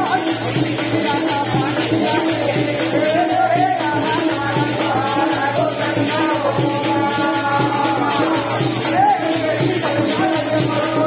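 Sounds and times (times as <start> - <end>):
men singing folk song: 0.0 - 11.0.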